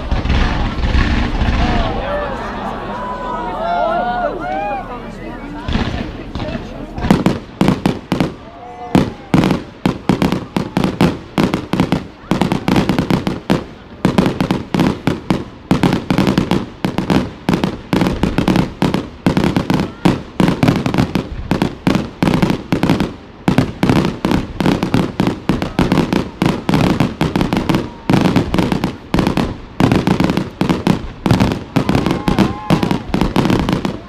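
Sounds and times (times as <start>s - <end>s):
fireworks loud bangs: 0.0s - 2.4s, 5.6s - 34.0s.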